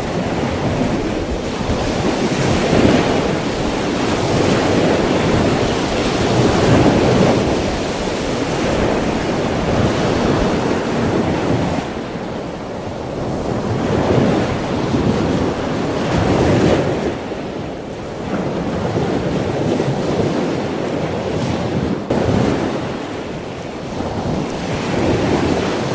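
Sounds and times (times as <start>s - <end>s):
ocean waves breaking: 0.0s - 25.9s.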